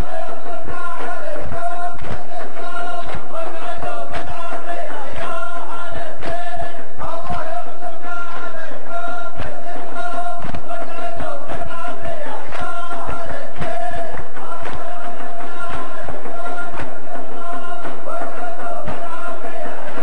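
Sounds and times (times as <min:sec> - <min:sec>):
men chanting: 0:00.0 - 0:20.0
sharp percussive beats: 0:00.0 - 0:20.0.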